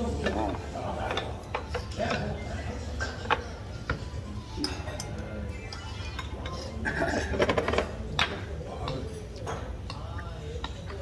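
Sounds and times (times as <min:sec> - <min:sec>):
background music: 0:00.0 - 0:11.0
metal utensils clinking on plates: 0:00.0 - 0:11.0.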